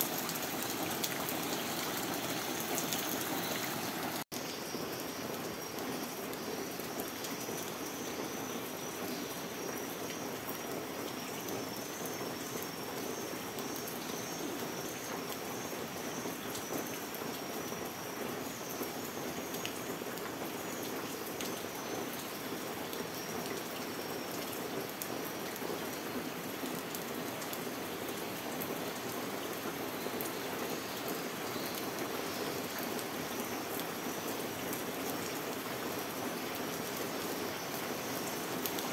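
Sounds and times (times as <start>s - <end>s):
rain falling on deck and plants: 0.0s - 38.9s.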